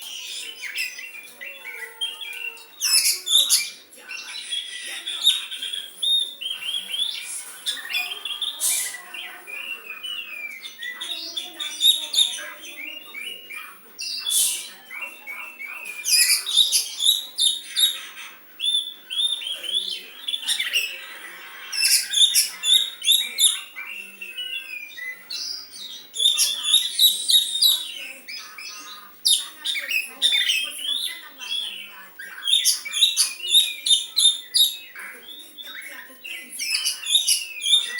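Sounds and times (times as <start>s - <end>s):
songbird singing chirps and whistles: 0.0s - 37.9s.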